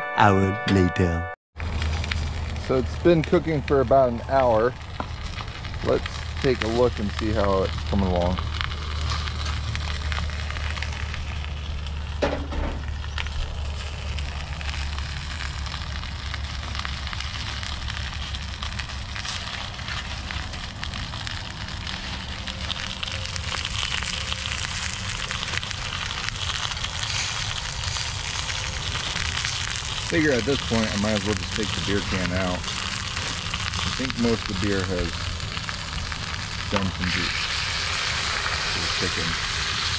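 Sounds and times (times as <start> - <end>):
aluminum foil crinkling: 1.6 - 12.2, 12.8 - 39.9
chicken sizzling and crackling: 1.6 - 39.9
propane burner running: 1.6 - 39.9.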